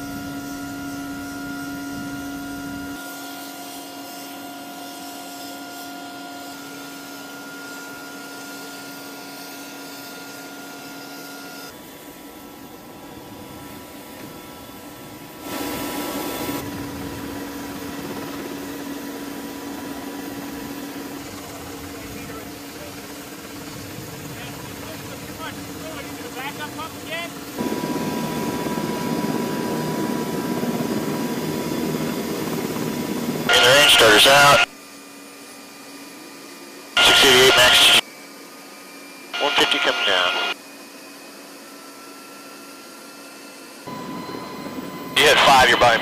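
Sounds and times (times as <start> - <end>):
helicopter turbine whine: 0.0 - 46.0.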